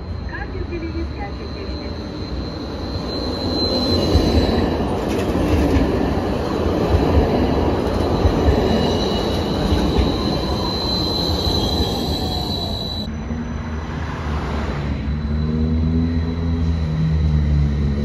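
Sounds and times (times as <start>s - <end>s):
tram rolling rumble: 0.0s - 18.0s.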